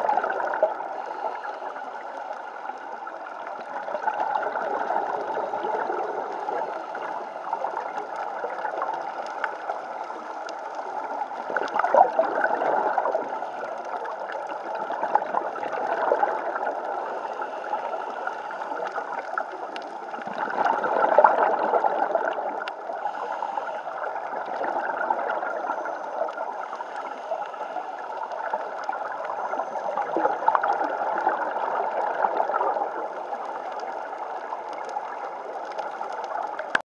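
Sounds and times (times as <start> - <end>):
underwater bubbles gurgling: 0.0 - 36.8.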